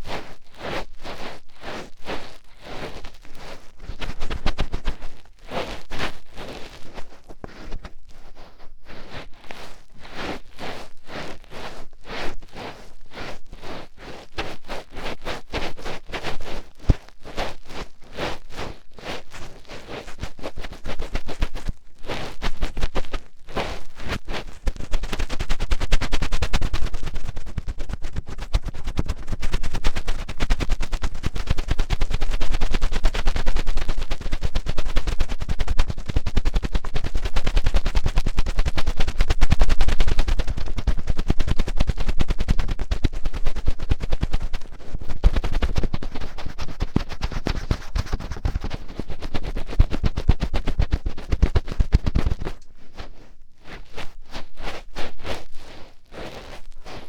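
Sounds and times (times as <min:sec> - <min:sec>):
fingertips rubbing microphone: 0:00.0 - 0:57.0.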